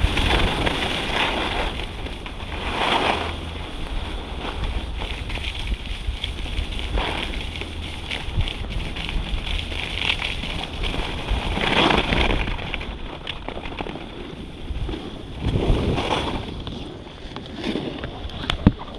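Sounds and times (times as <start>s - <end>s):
skis scraping over snow: 0.0s - 18.3s
wind buffeting microphone: 0.0s - 18.9s.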